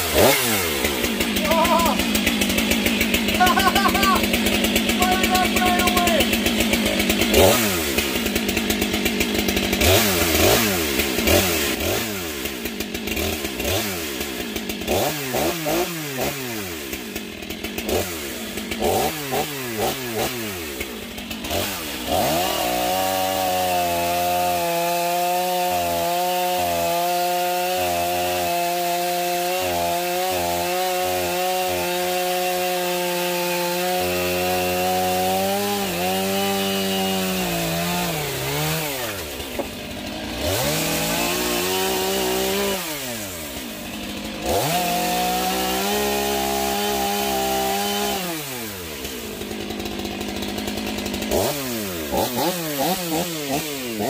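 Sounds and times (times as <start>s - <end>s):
chainsaw cutting log: 0.0s - 54.0s
chainsaw revving: 0.0s - 54.0s.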